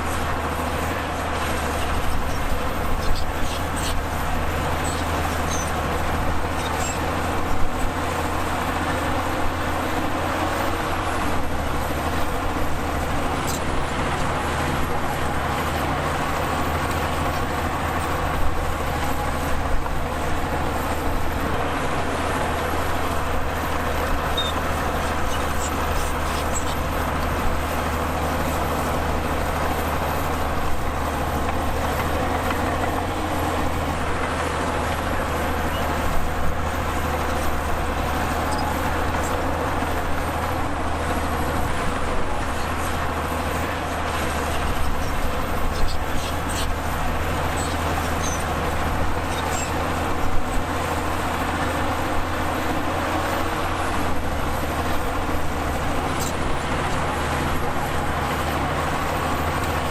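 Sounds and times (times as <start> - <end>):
diesel machinery droning: 0.0 - 59.9.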